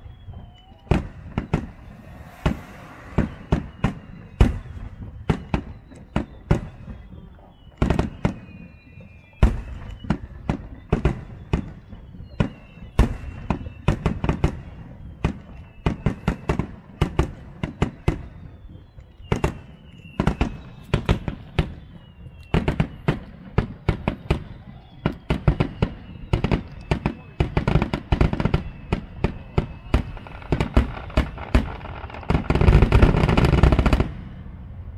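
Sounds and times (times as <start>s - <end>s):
firework bursts and bangs: 0.0s - 34.9s
firework whistles: 0.0s - 34.9s.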